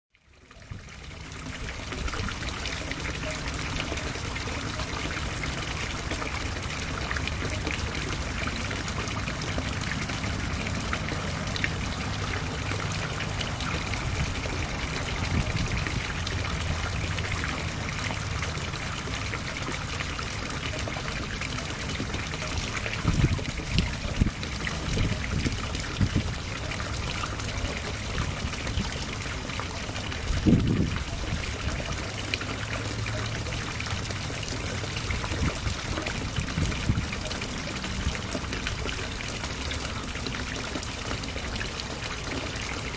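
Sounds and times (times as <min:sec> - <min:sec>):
water trickling into pond: 0:00.1 - 0:42.9.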